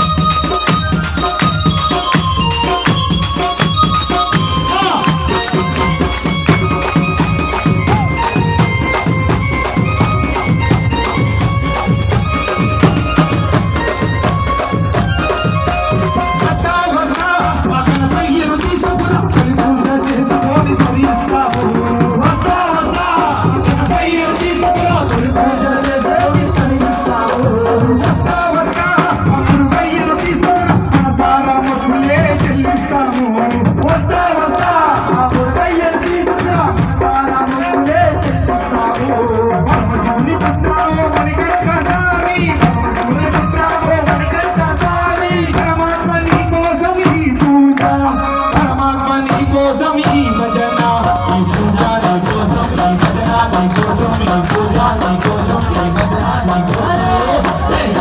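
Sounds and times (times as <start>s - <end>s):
hand clapping: 0.0s - 27.4s, 34.6s - 58.0s
group of men singing: 0.0s - 58.0s
shaken hand percussion: 0.0s - 58.0s
man singing into microphone: 4.0s - 58.0s.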